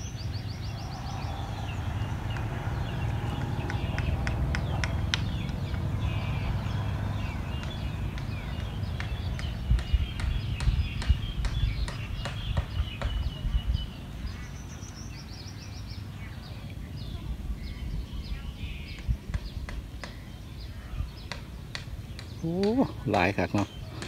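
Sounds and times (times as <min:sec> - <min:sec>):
wind rumble on microphone: 0:00.0 - 0:22.5
small birds chirping: 0:00.0 - 0:24.0.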